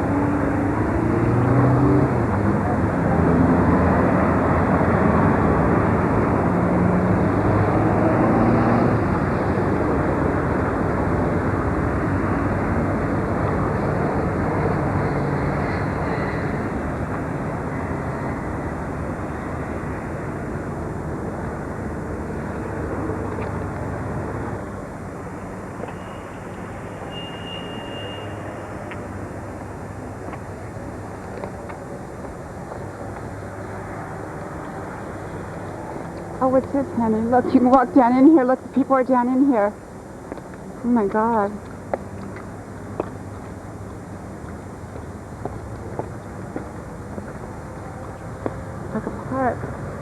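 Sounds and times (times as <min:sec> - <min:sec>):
city traffic noise: 0:00.0 - 0:50.0.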